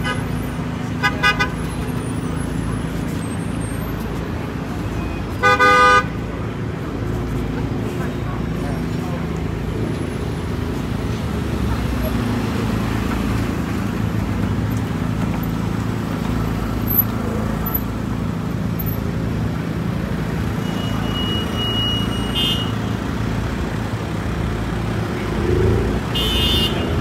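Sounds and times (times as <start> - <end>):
traffic engines rumbling: 0.0 - 27.0.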